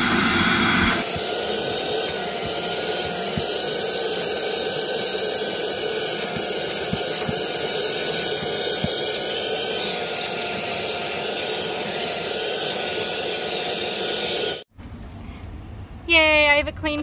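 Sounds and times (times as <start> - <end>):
vacuum cleaner running: 0.0 - 14.7.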